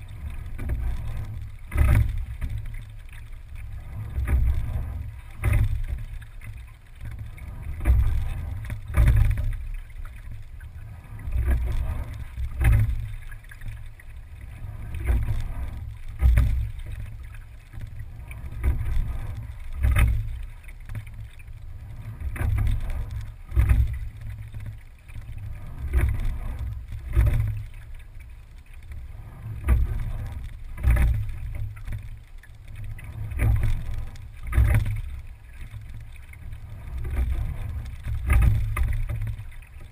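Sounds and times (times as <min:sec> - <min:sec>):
low steady rumble: 0:00.0 - 0:39.9
oars and rigging knocking: 0:00.0 - 0:39.9
water surging along hull: 0:00.0 - 0:39.9.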